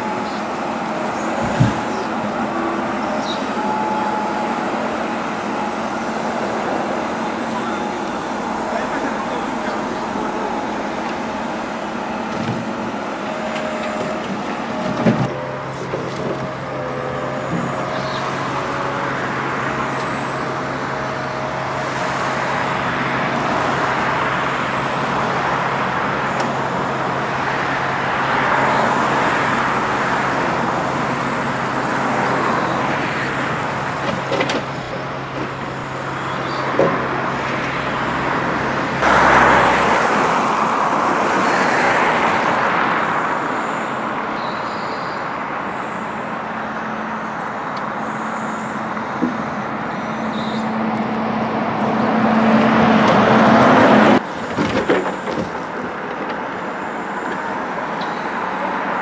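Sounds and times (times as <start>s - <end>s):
crane hydraulics whining: 0.0s - 59.0s
diesel truck engine running: 0.0s - 59.0s.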